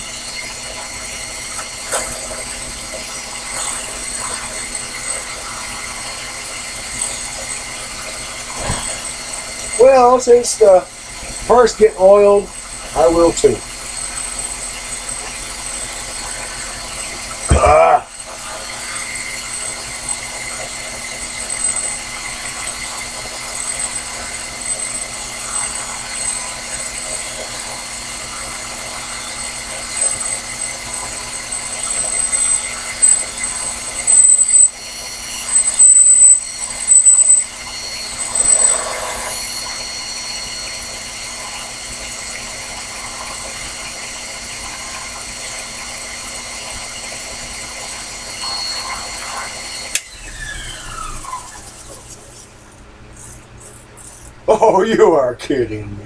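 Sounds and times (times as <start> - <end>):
bench lathe motor whine: 0.0 - 54.5.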